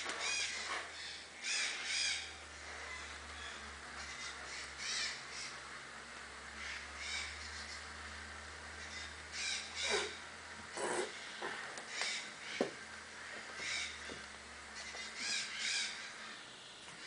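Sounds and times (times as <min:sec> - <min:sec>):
bird calling: 0:00.1 - 0:05.6, 0:08.6 - 0:17.0.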